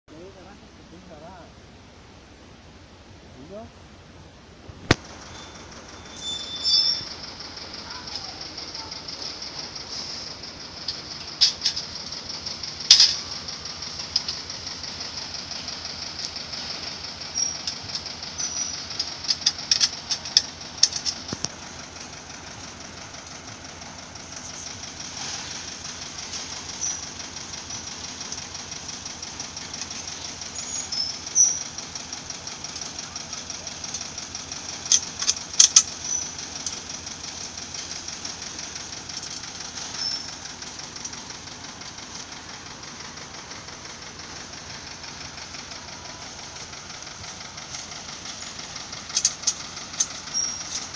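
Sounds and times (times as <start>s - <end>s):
metal tubes clanking: 5.0s - 50.9s.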